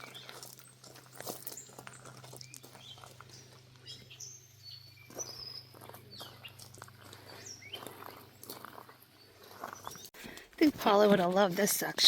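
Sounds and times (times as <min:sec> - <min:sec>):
small songbirds chirping: 0:00.0 - 0:10.4
soft footfalls on a trail: 0:00.0 - 0:11.7.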